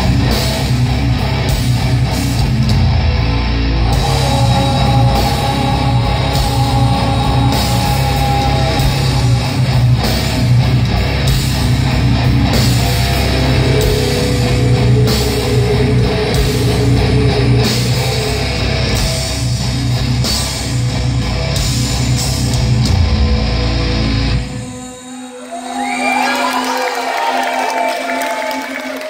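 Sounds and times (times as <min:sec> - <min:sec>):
live heavy metal band: 0:00.0 - 0:25.1.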